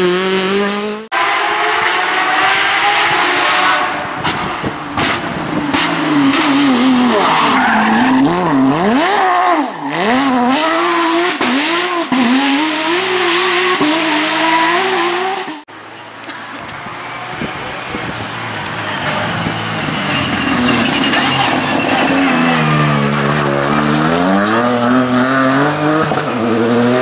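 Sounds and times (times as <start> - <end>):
rally car engine revving: 0.0 - 15.7, 17.1 - 27.0.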